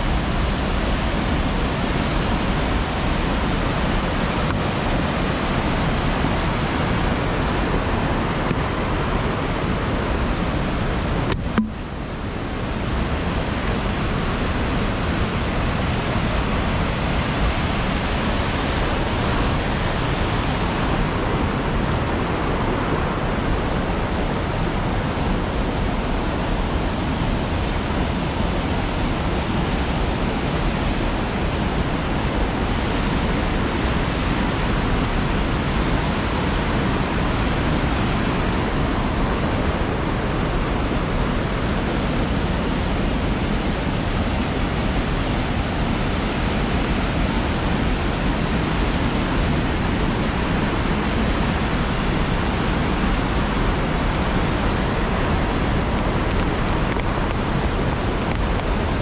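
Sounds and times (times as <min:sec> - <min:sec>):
whitewater rushing: 0:00.0 - 0:59.0.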